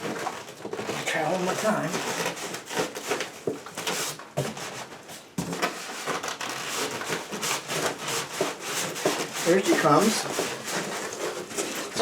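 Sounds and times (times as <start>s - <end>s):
cardboard and styrofoam scraping: 0.0s - 12.0s.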